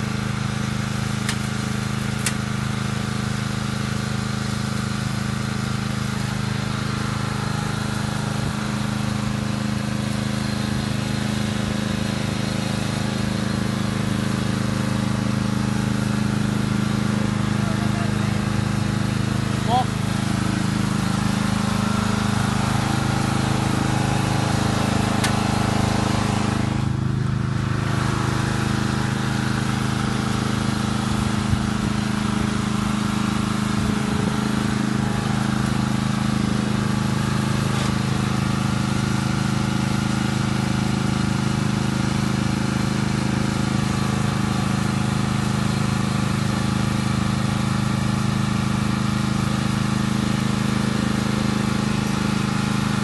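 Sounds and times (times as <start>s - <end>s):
lawnmower engine running: 0.0s - 53.0s.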